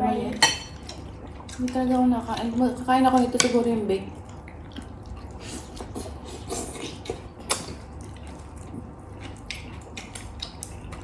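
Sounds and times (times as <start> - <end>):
chewing with wet mouth clicks: 0.7 - 11.0.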